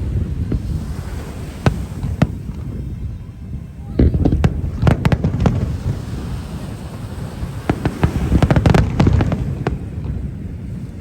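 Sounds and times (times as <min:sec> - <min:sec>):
distant fireworks rumble: 0:00.0 - 0:11.0
fireworks crackling bangs: 0:00.0 - 0:11.0.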